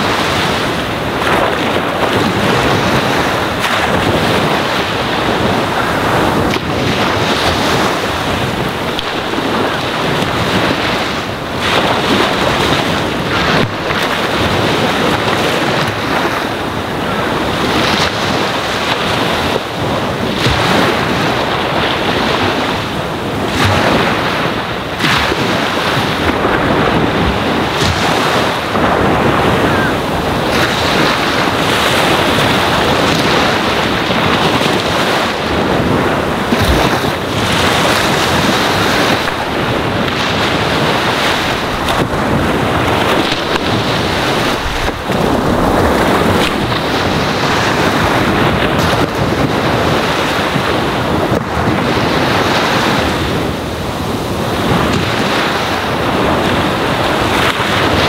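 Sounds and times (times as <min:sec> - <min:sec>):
ocean waves lapping on shore: 0:00.0 - 0:58.0.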